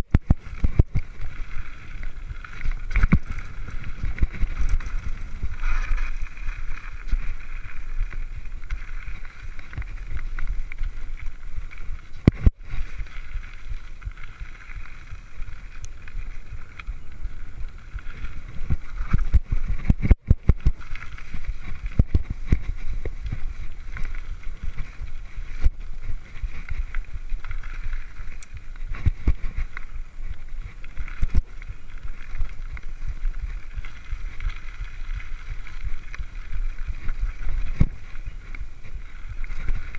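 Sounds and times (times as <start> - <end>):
bike knocking and rattling over bumps: 0.0 - 39.9
bike tyre noise: 0.0 - 39.9
wind rumble on microphone: 0.0 - 39.9.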